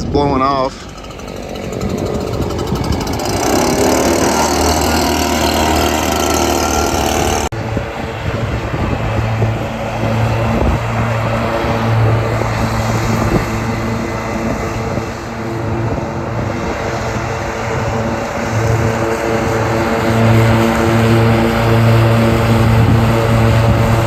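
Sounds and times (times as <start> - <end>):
small gasoline engines running: 0.0 - 24.0.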